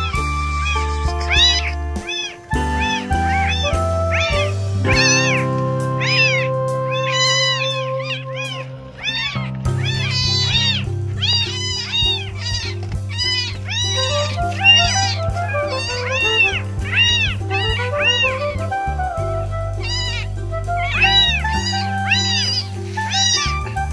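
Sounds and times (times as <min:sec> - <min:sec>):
background music with held notes: 0:00.0 - 0:23.9
kittens meowing: 0:00.0 - 0:23.9.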